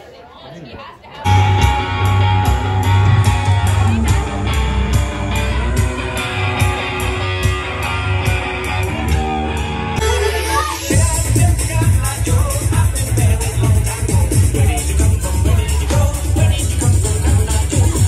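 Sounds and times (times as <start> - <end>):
upbeat music with guitar and bass: 1.3 - 18.0.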